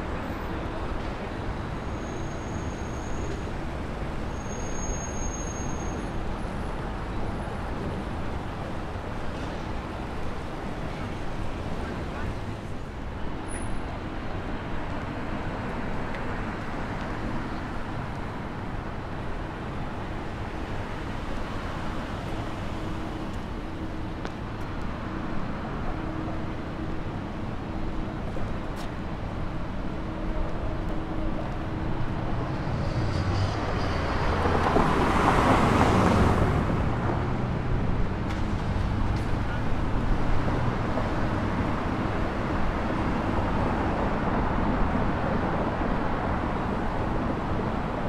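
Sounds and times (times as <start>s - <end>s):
hum of traffic: 0.0s - 48.0s.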